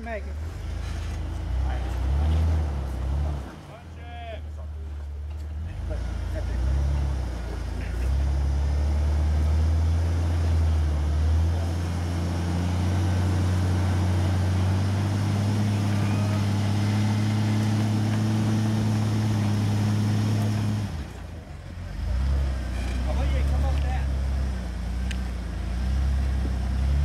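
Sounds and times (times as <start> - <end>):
car engine under load: 0.0 - 27.0.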